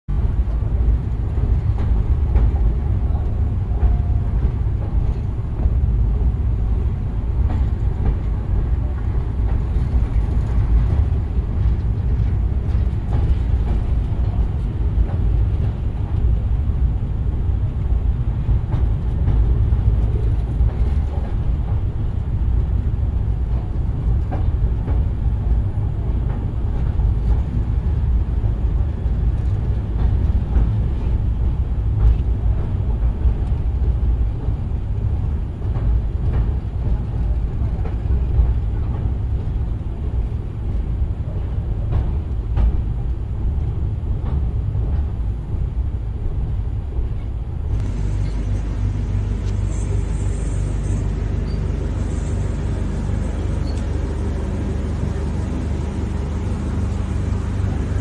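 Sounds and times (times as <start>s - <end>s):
train rumbling on bridge: 0.0s - 58.0s.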